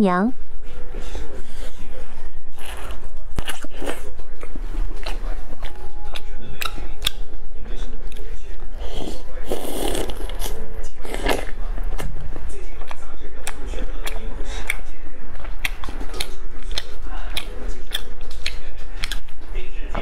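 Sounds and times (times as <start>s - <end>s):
steady low hum: 0.0s - 20.0s
person eating and chewing: 2.5s - 7.3s, 8.0s - 19.5s.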